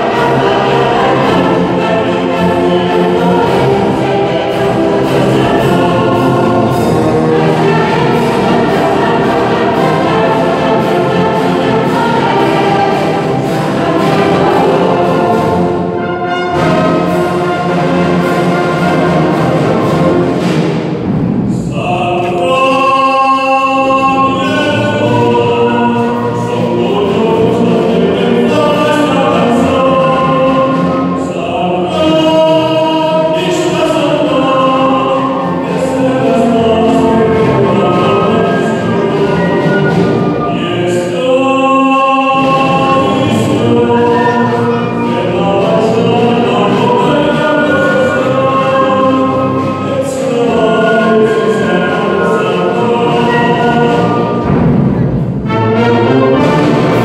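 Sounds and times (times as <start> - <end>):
choir singing: 0.0 - 57.0
wind band with tubas: 0.0 - 57.0.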